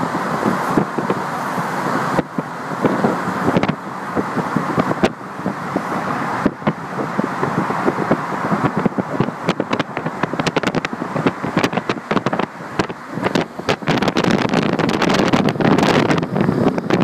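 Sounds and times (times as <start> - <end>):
road and tyre noise: 0.0 - 17.0
wind buffeting microphone: 0.0 - 17.0.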